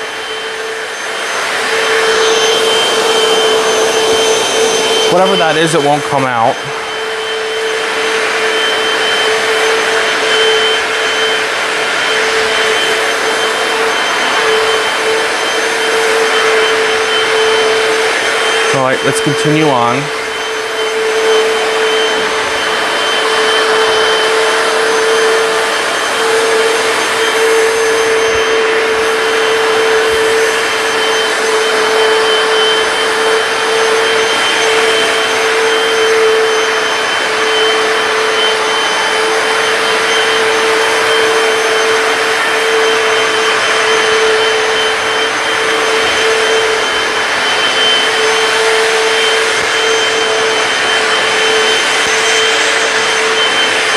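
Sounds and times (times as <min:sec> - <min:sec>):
floor cleaner running: 0:00.0 - 0:53.9.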